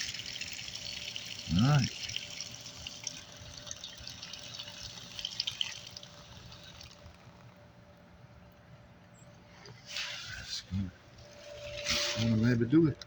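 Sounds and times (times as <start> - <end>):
water running through pipes: 0.0 - 8.3, 9.5 - 13.0.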